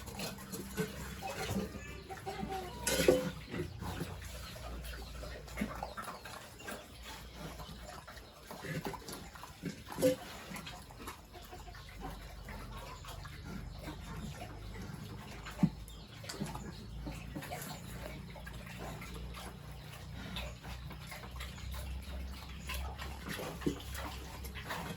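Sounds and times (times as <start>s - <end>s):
pigs calling: 0.0s - 24.9s.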